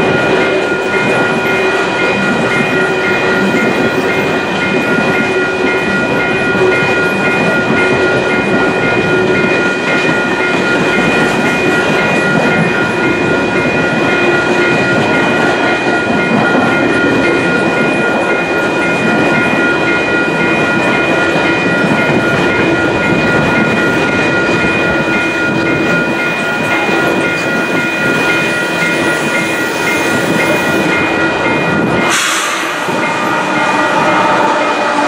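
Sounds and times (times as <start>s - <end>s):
diesel locomotive engine: 0.0s - 35.0s
freight train rumbling and rattling: 0.0s - 35.0s
high-pitched ringing: 0.0s - 35.0s.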